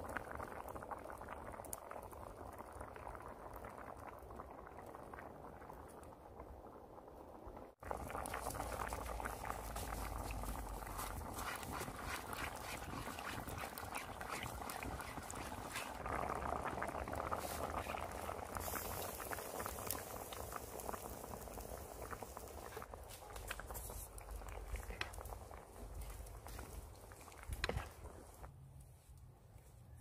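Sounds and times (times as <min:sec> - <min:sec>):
soup bubbling in a pot: 0:00.0 - 0:28.5
wood fire crackling and popping: 0:00.0 - 0:28.5.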